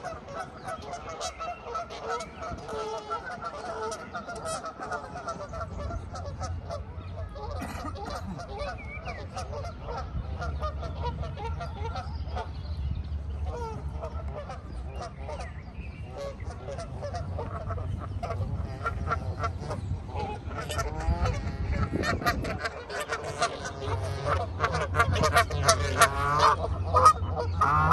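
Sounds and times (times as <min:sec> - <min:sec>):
birds calling: 0:00.0 - 0:27.9.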